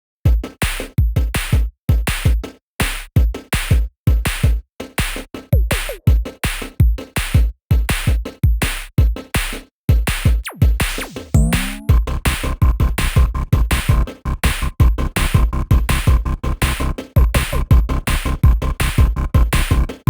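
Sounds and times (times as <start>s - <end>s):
drum machine beat: 0.3s - 20.0s.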